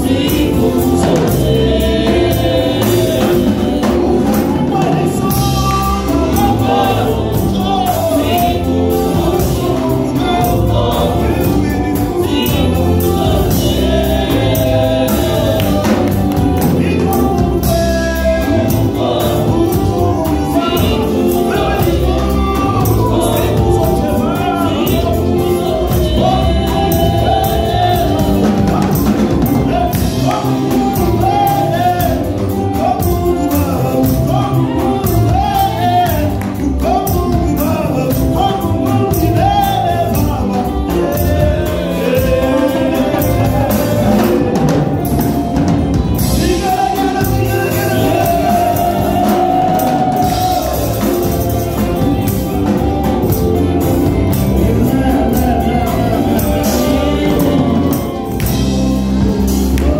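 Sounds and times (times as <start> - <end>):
women's backing vocals: 0.0 - 37.0, 38.7 - 52.3, 53.4 - 59.9
man singing into a microphone: 0.0 - 58.6
band with drums: 0.0 - 59.9.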